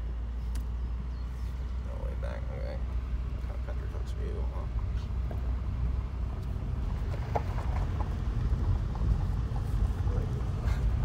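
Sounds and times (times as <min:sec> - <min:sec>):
tyres rumbling on gravel: 0:00.9 - 0:11.0.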